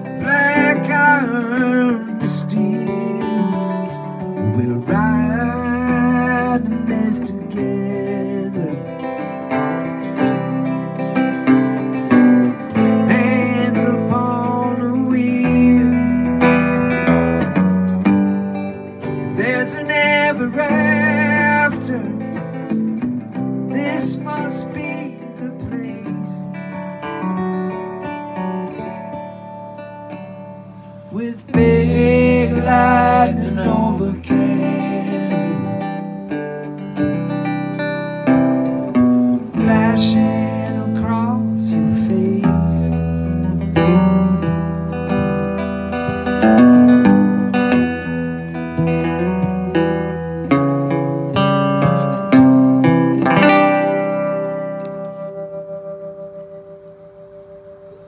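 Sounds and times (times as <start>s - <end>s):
acoustic guitar playing: 0.0s - 58.0s
electric guitar playing: 0.0s - 58.0s.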